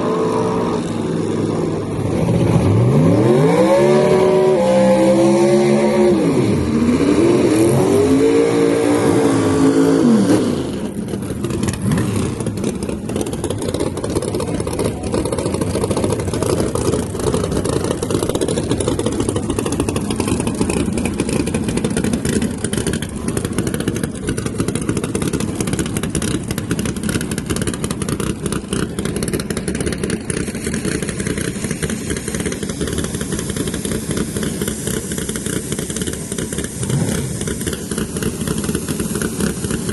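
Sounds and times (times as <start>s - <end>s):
drag car engine revving: 0.0s - 39.9s.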